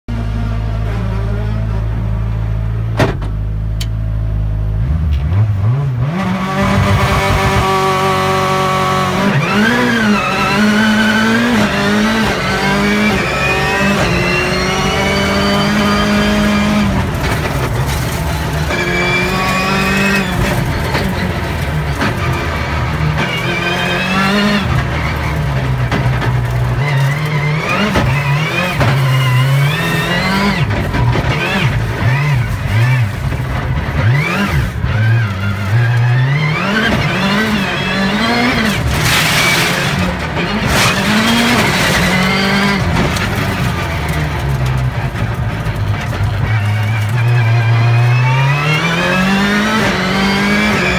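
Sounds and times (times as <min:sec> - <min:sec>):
race car engine revving: 0:04.6 - 0:50.9.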